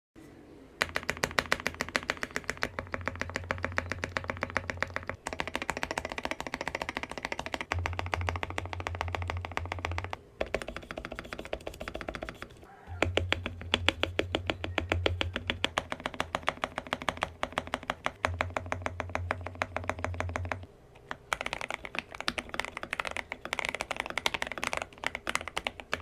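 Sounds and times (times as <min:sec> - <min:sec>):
mechanical keyboard typing: 0:00.8 - 0:26.0.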